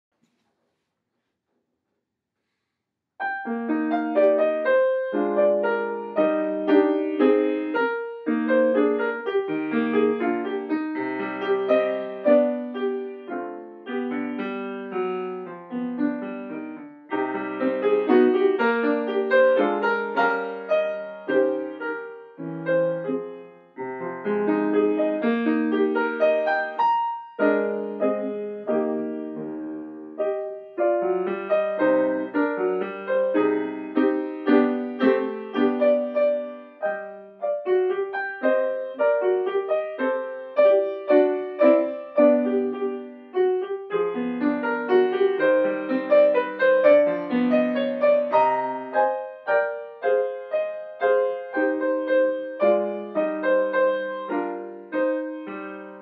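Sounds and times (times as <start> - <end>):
grand piano playing classical piece: 3.2 - 56.0.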